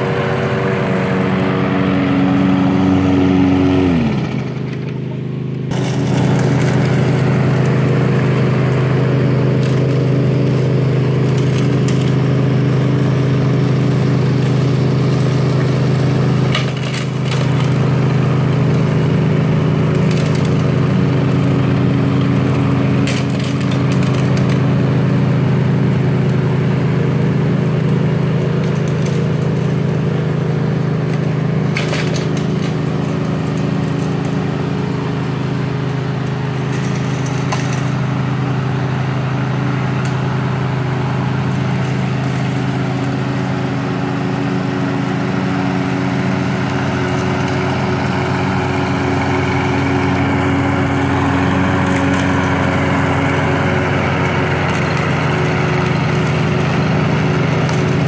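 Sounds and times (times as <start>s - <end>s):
lawn mower engine running: 0.0s - 58.0s
sharp cracks from mower deck: 2.6s - 5.1s, 5.7s - 58.0s.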